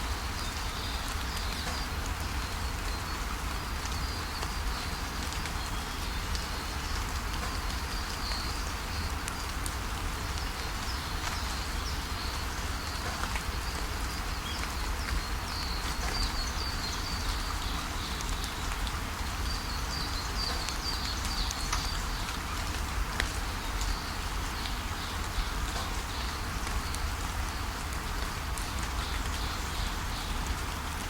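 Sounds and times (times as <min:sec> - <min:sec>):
rain falling on leaves: 0:00.0 - 0:31.0
small birds chirping: 0:00.1 - 0:30.6.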